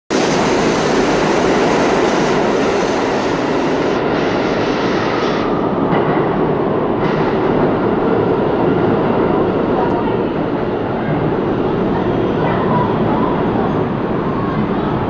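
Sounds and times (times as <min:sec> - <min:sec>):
subway train wheels rumbling: 0:00.1 - 0:15.0.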